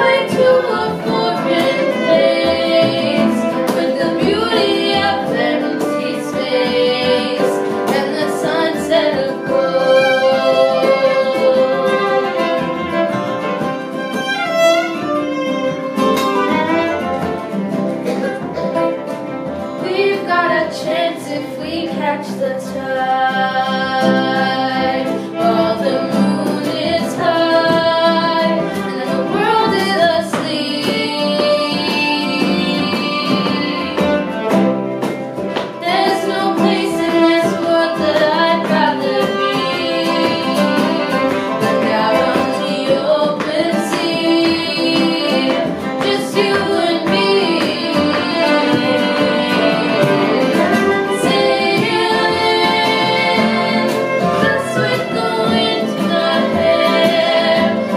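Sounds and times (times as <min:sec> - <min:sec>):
girls singing together: 0:00.0 - 0:13.2, 0:19.7 - 0:34.5, 0:35.5 - 0:57.9
fiddle: 0:00.0 - 0:57.9
strummed acoustic guitar: 0:00.0 - 0:57.9.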